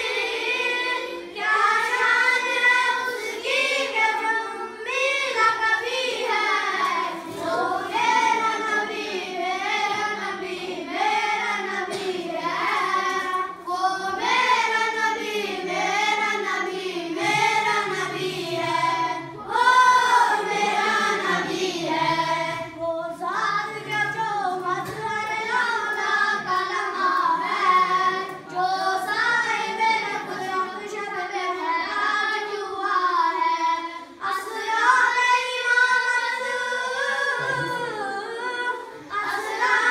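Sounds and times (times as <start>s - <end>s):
boy singing unaccompanied: 0.0s - 39.9s.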